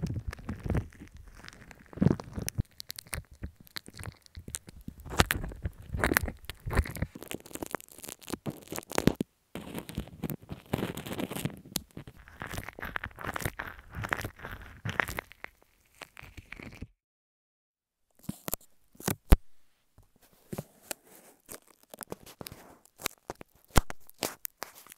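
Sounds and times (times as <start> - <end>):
close crackling and crunching: 0.0 - 17.0, 18.2 - 19.5, 20.2 - 24.9.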